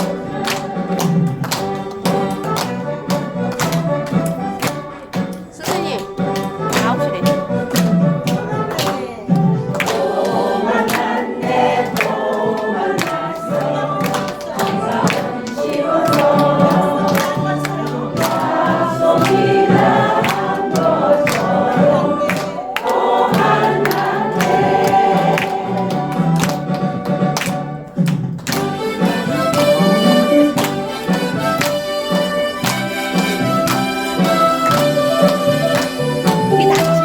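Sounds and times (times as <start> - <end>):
harmonica ensemble playing: 0.0 - 28.0, 28.6 - 37.0.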